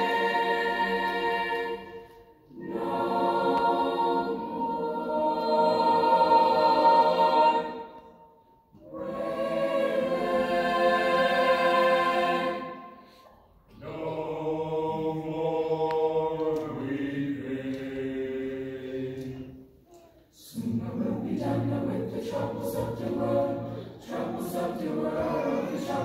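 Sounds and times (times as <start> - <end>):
choir singing a cappella: 0.0 - 26.0.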